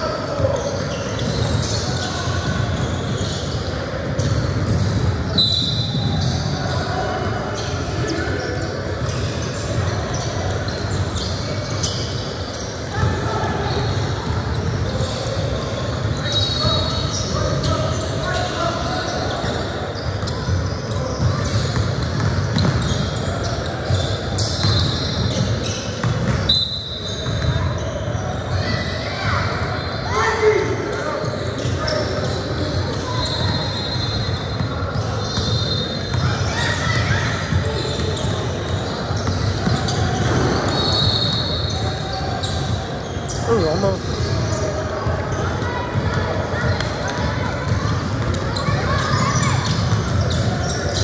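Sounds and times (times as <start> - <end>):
spectators chattering: 0.0 - 51.0.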